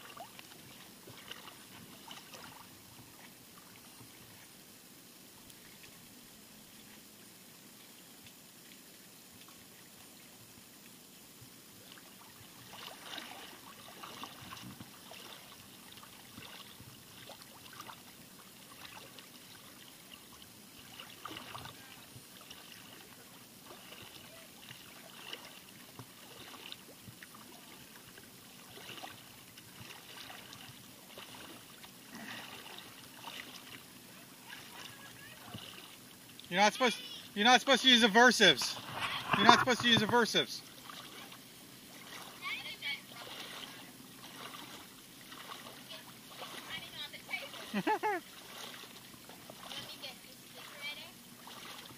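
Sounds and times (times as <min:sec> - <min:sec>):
shallow seawater lapping: 0:00.0 - 0:04.6, 0:11.7 - 0:51.9.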